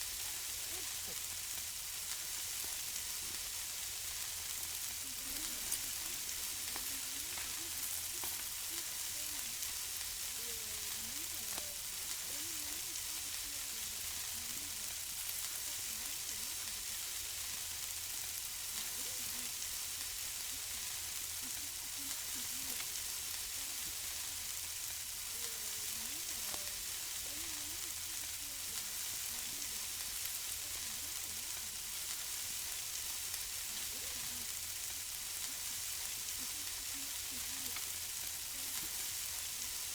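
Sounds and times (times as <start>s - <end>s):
food sizzling on a grill: 0.0s - 39.9s
small crackles: 0.1s - 39.9s.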